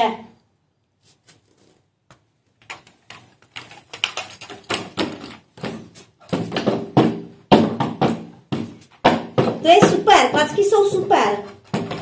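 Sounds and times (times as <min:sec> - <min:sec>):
puppet feet tapping on wooden floor: 0:02.0 - 0:12.0.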